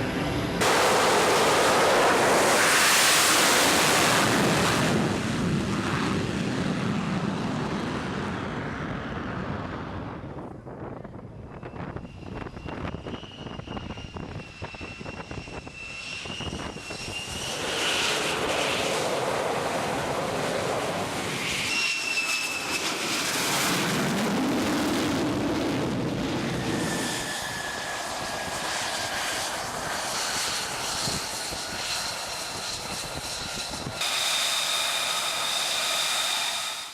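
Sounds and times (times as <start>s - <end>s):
jet engine whine and roar: 0.0s - 36.9s.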